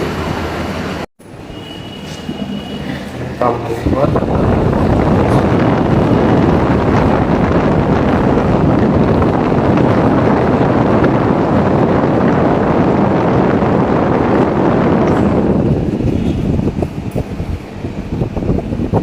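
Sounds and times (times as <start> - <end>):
air conditioner fan blowing: 0.0 - 19.0.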